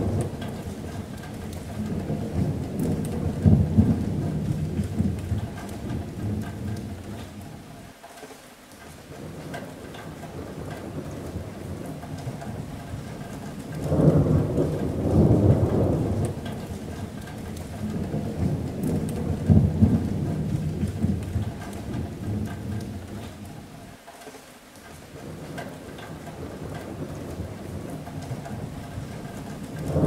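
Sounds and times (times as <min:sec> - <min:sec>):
rolling thunder: 0:00.0 - 0:07.5, 0:09.2 - 0:23.6, 0:25.2 - 0:30.0
rain on a metal roof: 0:00.0 - 0:30.0.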